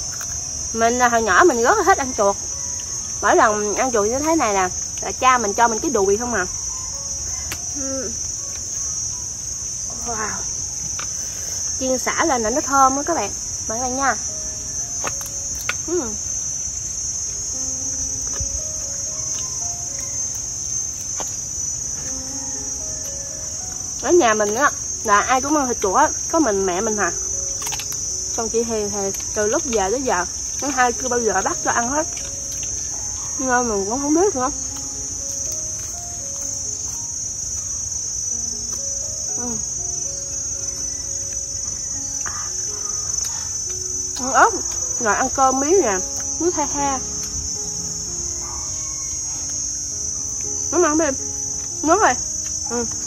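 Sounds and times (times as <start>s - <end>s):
insects chirring: 0.0s - 53.0s
soft background melody: 0.0s - 53.0s.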